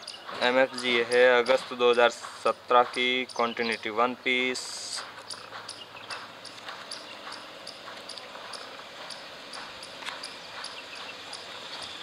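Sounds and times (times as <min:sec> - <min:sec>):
quick steady ticking: 0:00.0 - 0:12.0.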